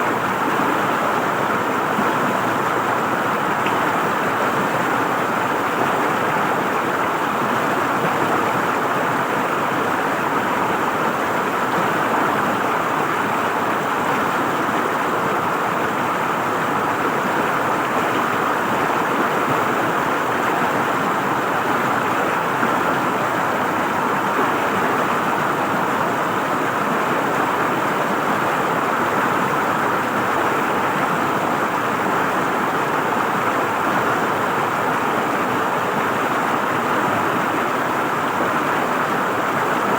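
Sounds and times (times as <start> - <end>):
river water gurgling over rocks: 0.0 - 39.9.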